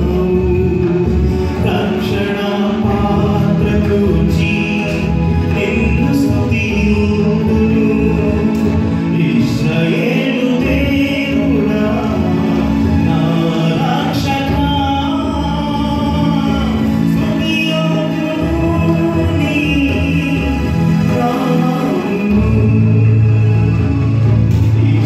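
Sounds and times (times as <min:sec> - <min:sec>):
keyboard chords: 0:00.0 - 0:25.0
man singing into microphone: 0:00.0 - 0:25.0.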